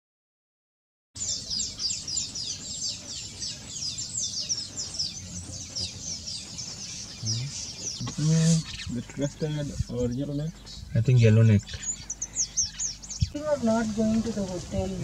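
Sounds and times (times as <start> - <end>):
birds chattering: 1.2 - 15.0.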